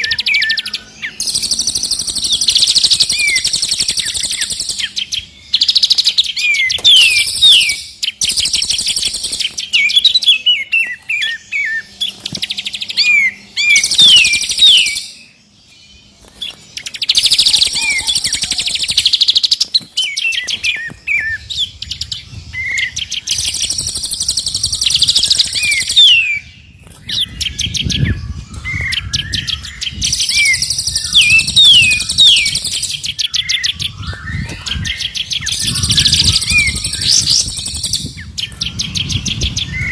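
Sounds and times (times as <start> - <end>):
birds singing trills and whistles: 0.0 - 39.9.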